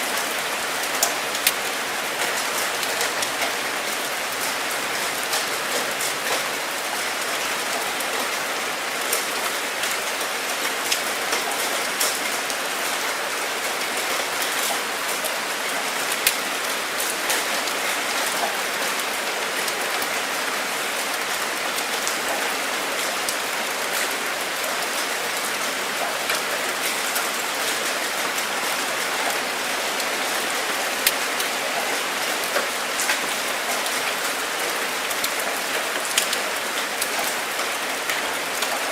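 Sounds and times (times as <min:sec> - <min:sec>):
steady rain hiss: 0:00.0 - 0:38.9
raindrops ticking on a surface: 0:00.1 - 0:38.9.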